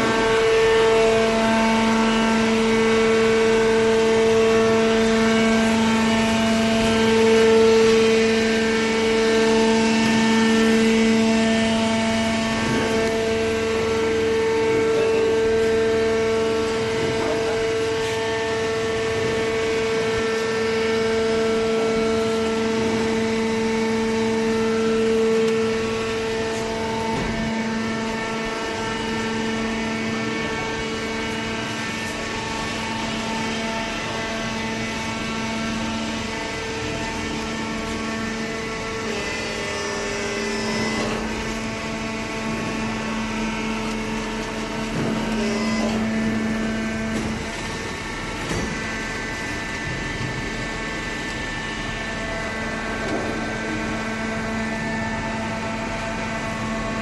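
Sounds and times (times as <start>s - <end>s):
baler motor and hydraulic pump drone: 0.0s - 57.0s.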